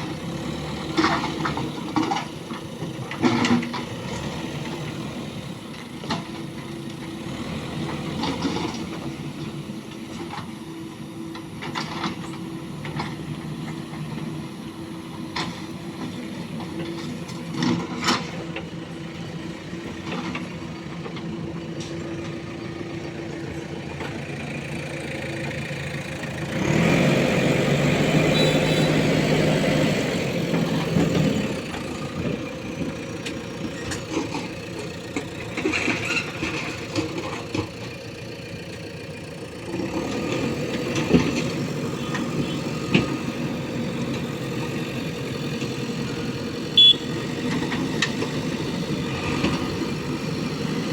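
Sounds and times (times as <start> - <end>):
diesel engine revving: 0.0 - 50.9.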